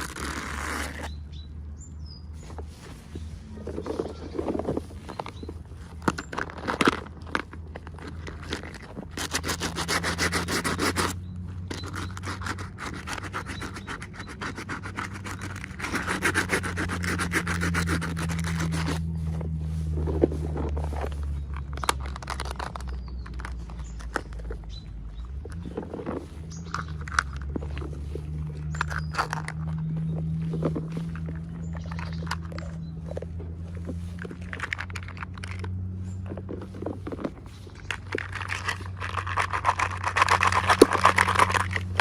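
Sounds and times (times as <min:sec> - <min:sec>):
packaging rubbing and scratching: 0:00.0 - 0:01.2, 0:02.4 - 0:42.0.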